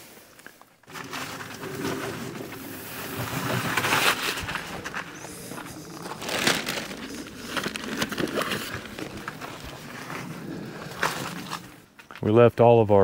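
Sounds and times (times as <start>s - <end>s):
fabric rustling and crinkling: 0.0s - 12.3s.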